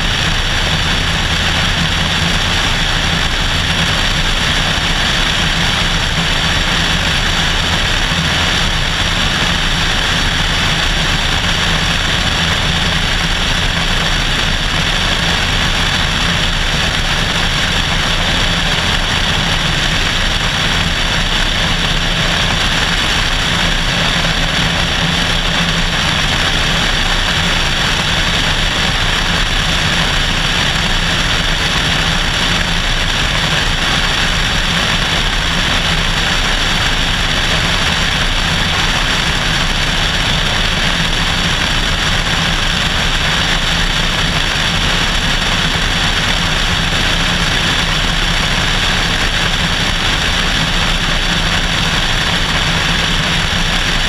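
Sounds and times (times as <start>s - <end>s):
airplane engine and propeller: 0.0s - 54.0s
wind rush on microphone: 0.0s - 54.0s.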